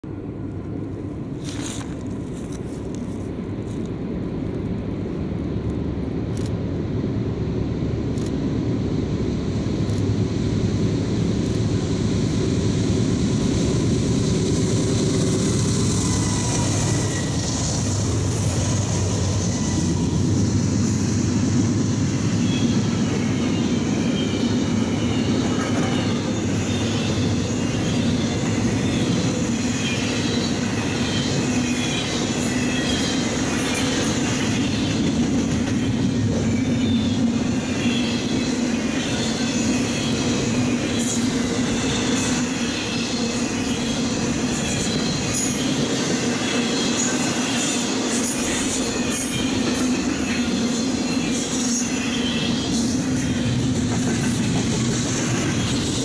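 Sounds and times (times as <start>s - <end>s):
diesel locomotives passing: 0.0s - 56.0s.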